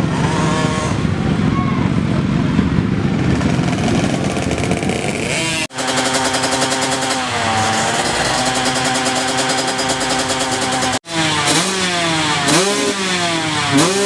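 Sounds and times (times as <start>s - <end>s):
racing motorcycle engines revving: 0.0s - 14.0s.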